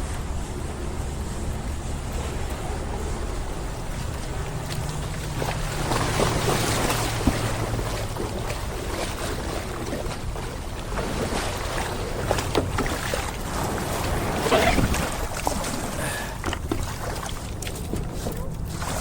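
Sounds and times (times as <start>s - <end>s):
water lapping around kayak: 0.0s - 19.0s
wind rumble on microphone: 0.0s - 19.0s.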